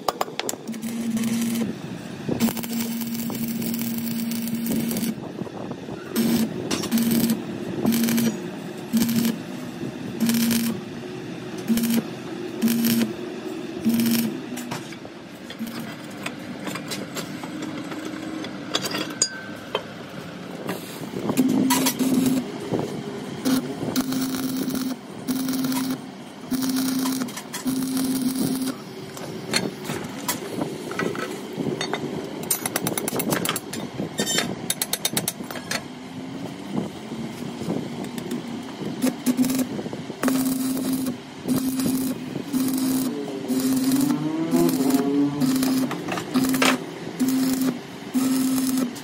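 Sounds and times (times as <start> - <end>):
arc welder humming and crackling: 0.0 - 17.4, 20.5 - 35.4, 36.0 - 49.0.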